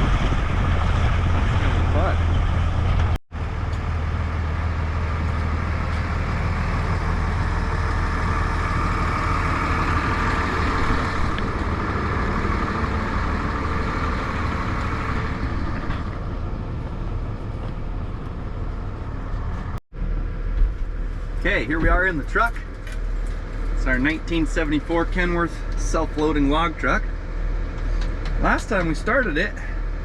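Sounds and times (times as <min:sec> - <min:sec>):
road noise: 0:00.0 - 0:30.0
vehicle engine running: 0:00.0 - 0:30.0.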